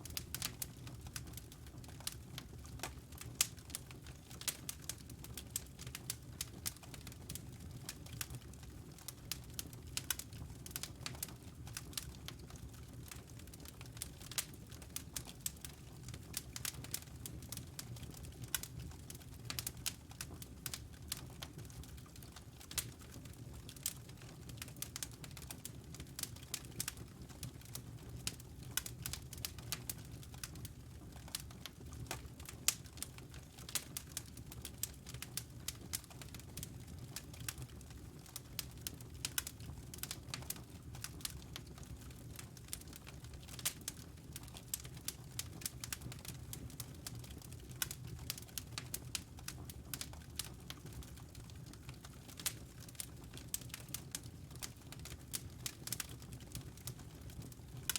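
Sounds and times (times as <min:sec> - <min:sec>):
logs burning in a fireplace: 0:00.0 - 0:57.9.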